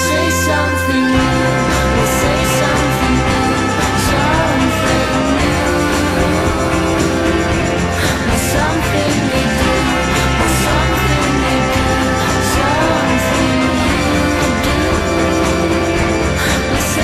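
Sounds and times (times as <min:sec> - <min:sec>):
rock background music: 0:00.0 - 0:17.0.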